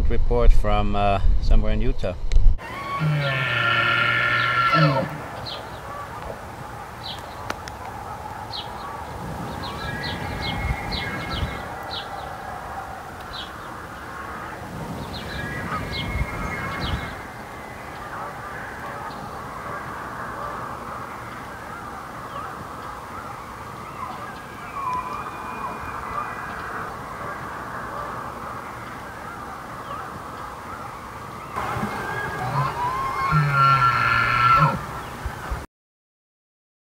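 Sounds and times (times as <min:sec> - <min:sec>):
birds chirping: 0:02.6 - 0:35.6.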